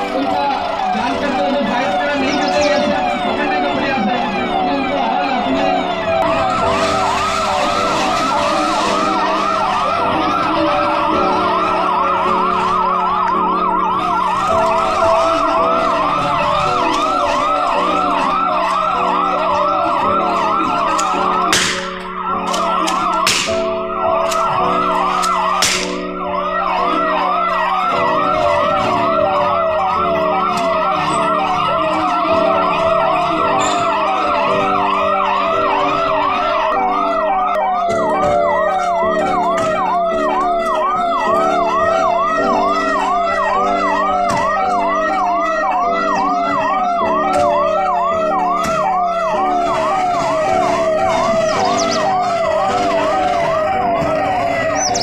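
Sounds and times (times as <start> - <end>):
police siren yelping: 0.0 - 55.0.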